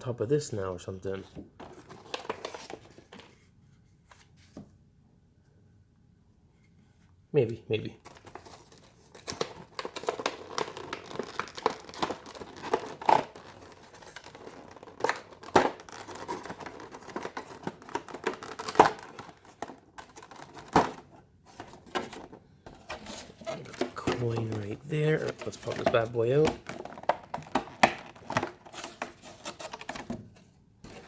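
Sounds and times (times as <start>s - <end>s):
packaging crinkling and rustling: 1.5s - 3.4s, 8.0s - 31.0s.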